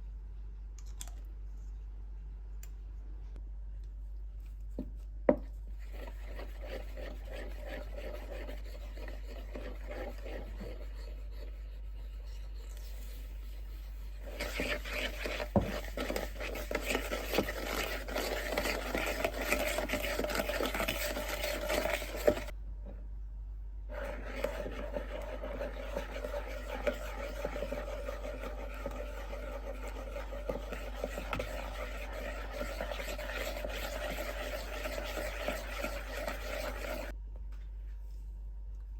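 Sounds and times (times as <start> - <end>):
low electrical hum: 0.0 - 38.9
rubbing and scraping in kitchen: 4.5 - 22.6, 23.8 - 37.2.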